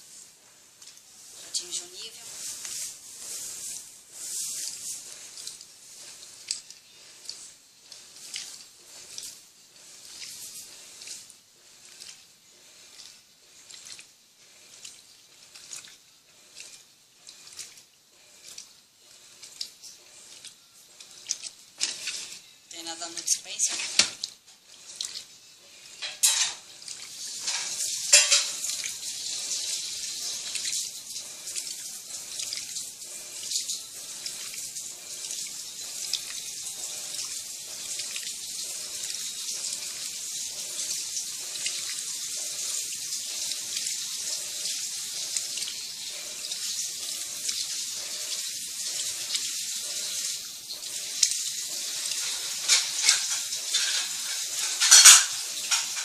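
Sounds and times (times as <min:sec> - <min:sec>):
washing machine water churning: 0:00.0 - 0:56.0.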